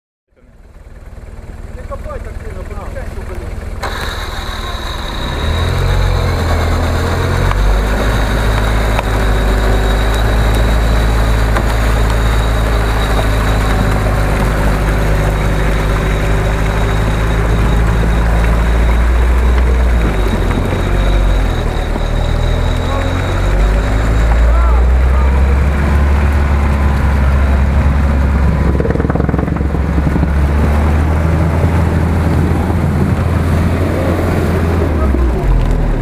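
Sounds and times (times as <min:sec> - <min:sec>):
truck engine low drone: 0:00.3 - 0:36.0.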